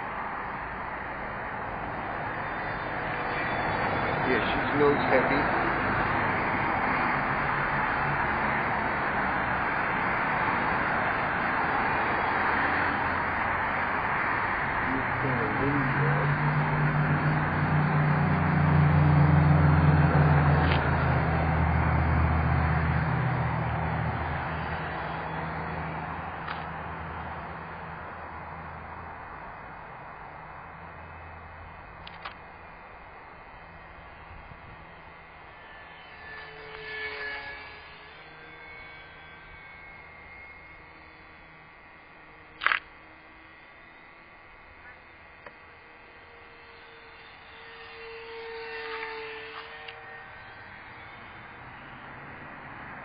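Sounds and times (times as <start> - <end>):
model plane electric motor hum: 0.0 - 53.0.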